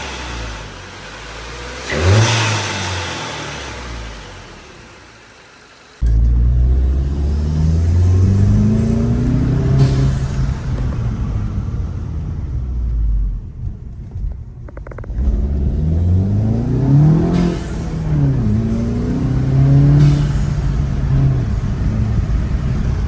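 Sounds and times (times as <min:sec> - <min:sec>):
turbocharged car engine accelerating: 0:00.0 - 0:23.0.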